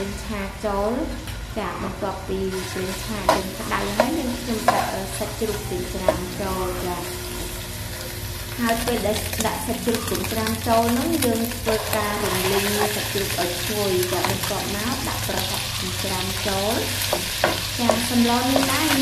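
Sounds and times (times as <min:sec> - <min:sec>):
pork sizzling in a wok: 0:02.4 - 0:19.0.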